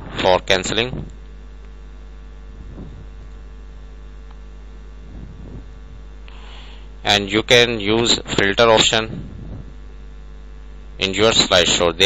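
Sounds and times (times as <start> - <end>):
electrical hum with faint hiss: 0.0 - 12.0.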